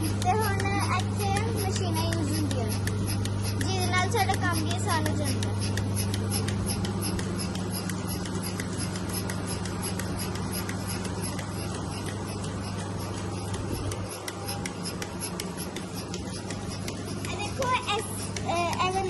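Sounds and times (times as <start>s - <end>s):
milking machine humming: 0.0s - 19.0s
pulsators ticking: 0.0s - 19.0s.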